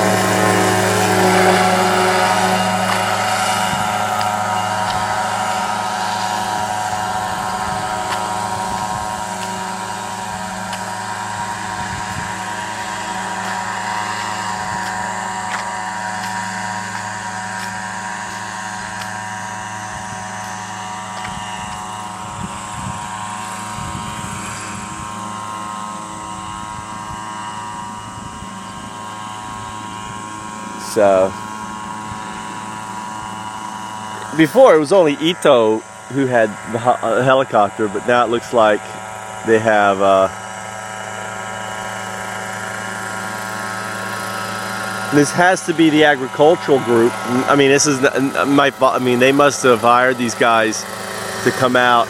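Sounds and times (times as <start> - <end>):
small helicopter engine and rotor drone: 0.0 - 52.0.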